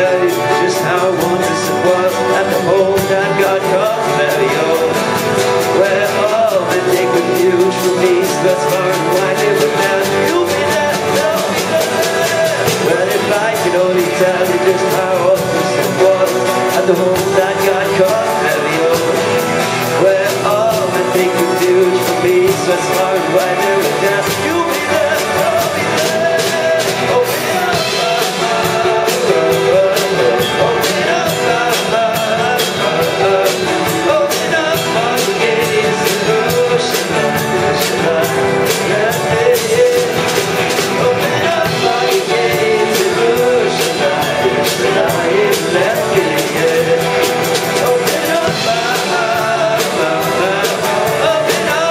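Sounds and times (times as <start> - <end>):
live rock band instrumental: 0.0 - 51.9.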